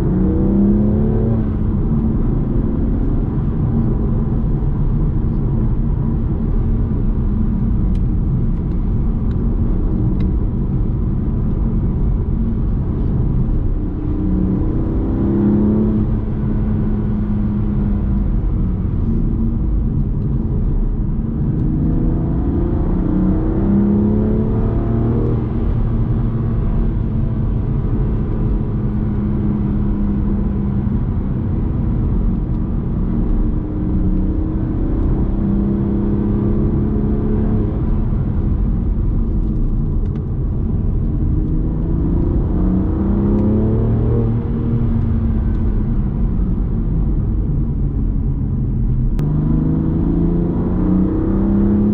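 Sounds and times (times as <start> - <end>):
car engine accelerating: 0.0 - 51.9
road rumble: 0.0 - 51.9.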